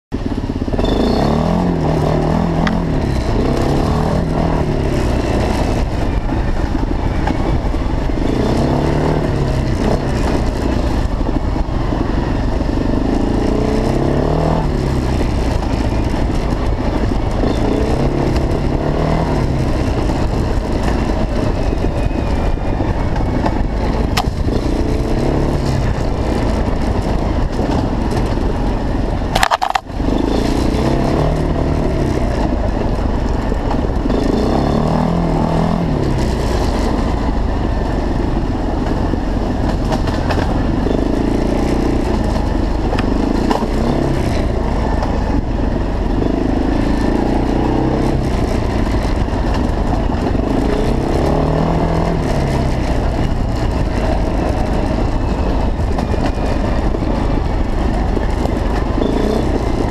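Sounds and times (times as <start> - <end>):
quad engine revving: 0.7 - 59.9.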